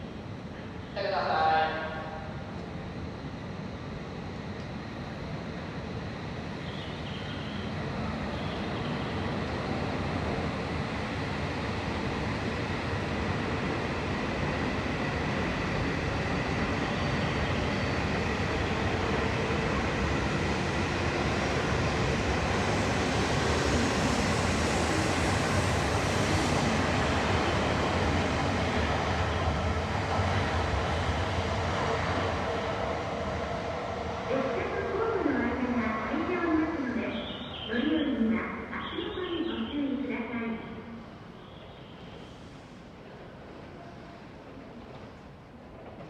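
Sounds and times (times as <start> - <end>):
train rumbling on tracks: 0.0 - 46.0.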